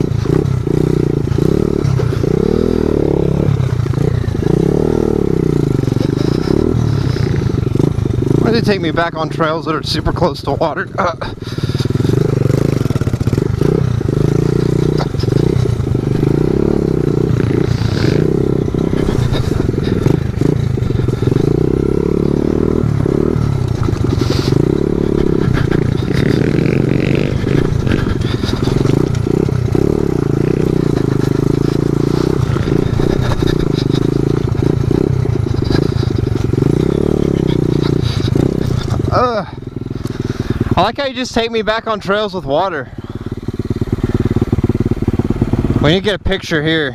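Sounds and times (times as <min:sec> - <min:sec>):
pit bike engine running: 0:00.0 - 0:46.9.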